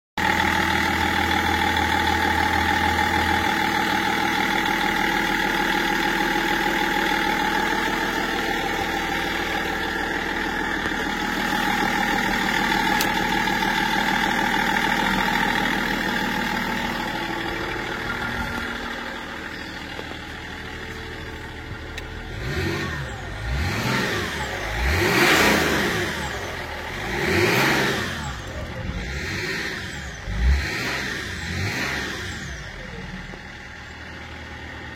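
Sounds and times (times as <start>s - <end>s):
engine running and revving: 0.2s - 34.9s.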